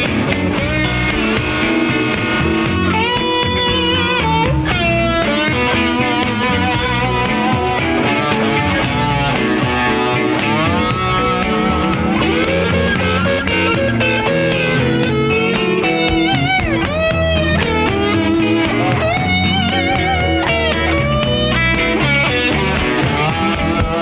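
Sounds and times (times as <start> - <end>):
bass: 0.0 - 24.0
lead guitar solo: 0.0 - 24.0
steady drum beat: 0.0 - 24.0.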